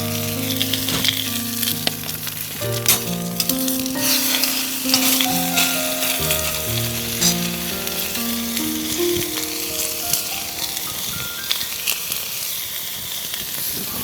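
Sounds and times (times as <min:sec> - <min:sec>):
background music: 0:00.0 - 0:11.6
food sizzling in frying: 0:00.0 - 0:14.0.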